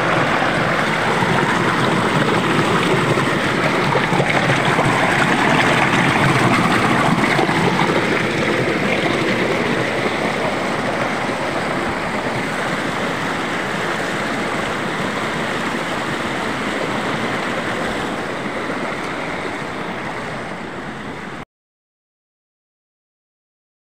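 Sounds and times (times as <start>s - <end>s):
stream water rushing over boulders: 0.0s - 21.4s.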